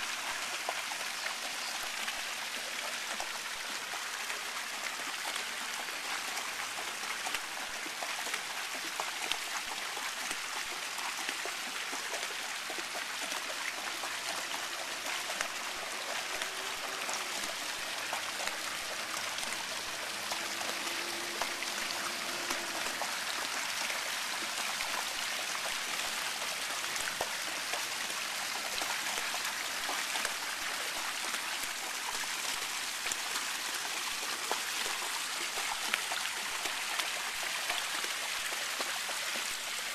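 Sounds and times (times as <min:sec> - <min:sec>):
fountain water splashing: 0:00.0 - 0:39.9
dog wading through water: 0:07.5 - 0:39.9.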